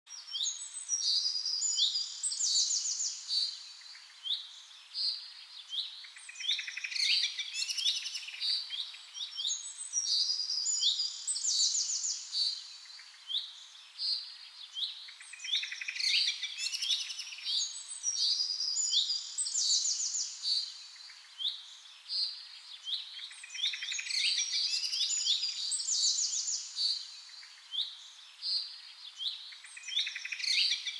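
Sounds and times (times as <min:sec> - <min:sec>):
songbird chirps and trills: 0:00.1 - 0:30.9.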